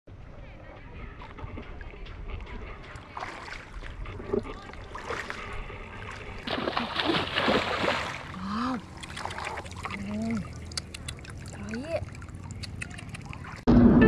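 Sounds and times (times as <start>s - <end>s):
water splashing and sloshing: 0.5s - 14.0s.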